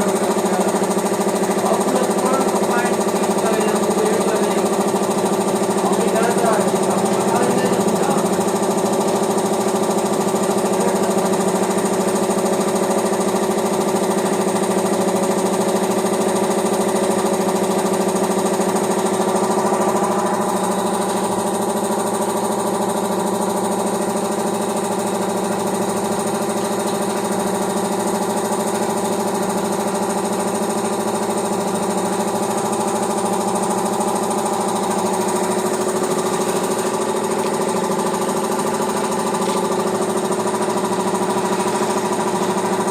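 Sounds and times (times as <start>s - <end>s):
air compressor running: 0.0s - 42.9s.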